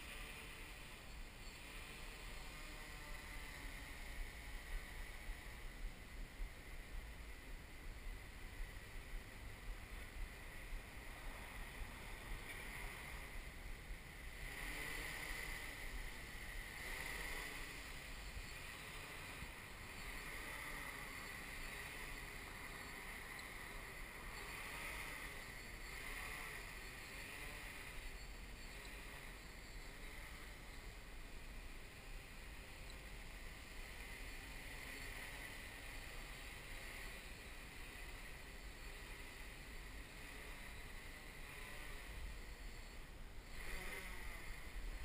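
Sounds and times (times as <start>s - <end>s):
drone motors whirring: 0.0s - 45.0s.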